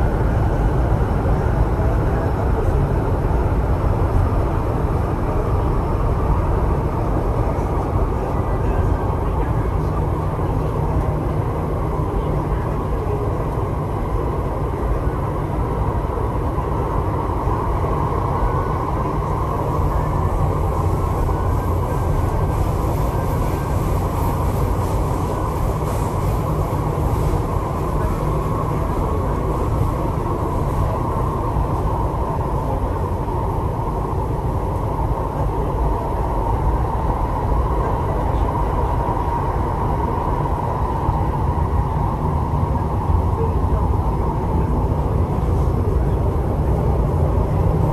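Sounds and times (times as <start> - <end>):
train hum: 0.0 - 47.9
train wheels rumbling on rail: 0.0 - 47.9.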